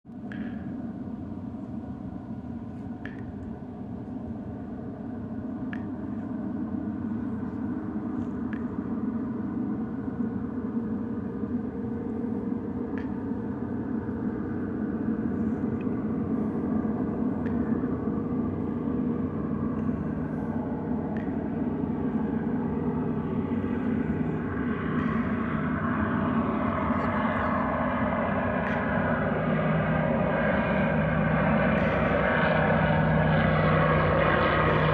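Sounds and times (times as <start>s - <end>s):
airplane engine drone: 0.1s - 34.9s.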